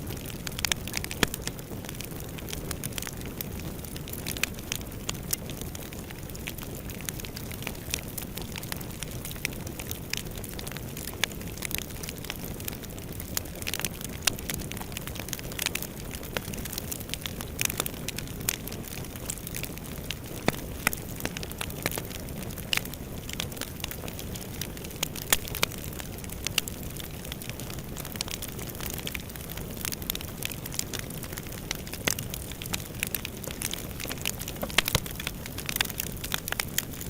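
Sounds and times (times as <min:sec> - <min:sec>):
fire crackling in fireplace: 0:00.0 - 0:37.0.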